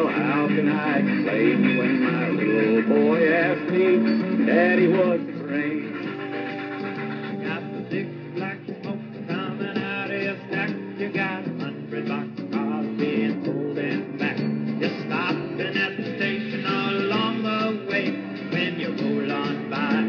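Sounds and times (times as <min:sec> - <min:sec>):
guitar-backed song with singing: 0:00.0 - 0:20.0.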